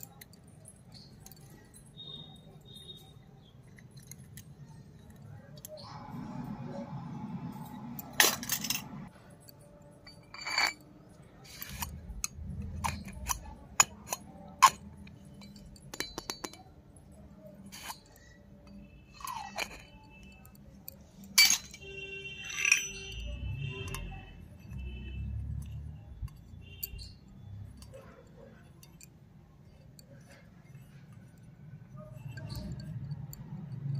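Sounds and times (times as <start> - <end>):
metallic ring: 0.0 - 33.9
small steel utensils clinking: 0.0 - 33.9.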